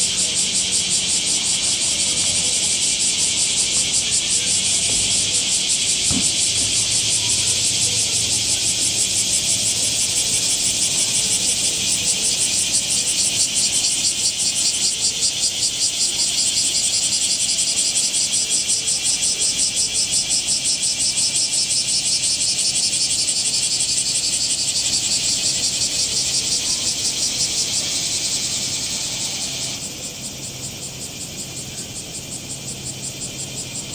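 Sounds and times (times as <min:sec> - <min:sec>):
cicadas buzzing: 0:00.0 - 0:33.9.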